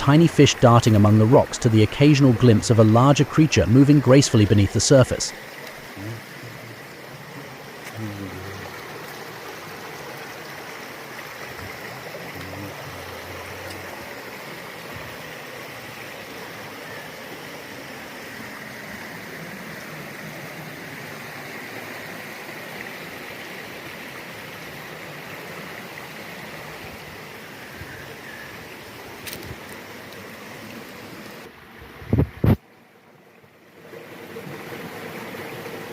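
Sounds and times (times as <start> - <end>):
river flowing over rocks: 0.0 - 31.8, 32.6 - 35.9.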